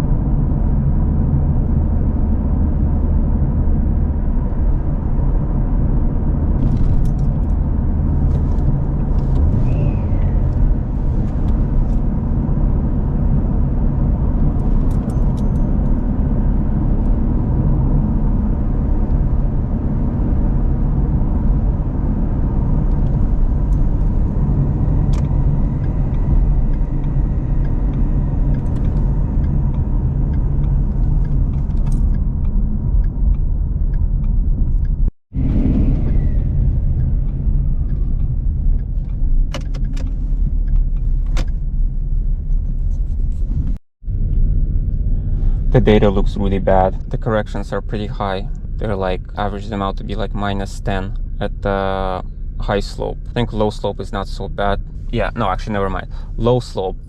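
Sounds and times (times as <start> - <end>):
engine and road rumble in cabin: 0.0 - 57.0.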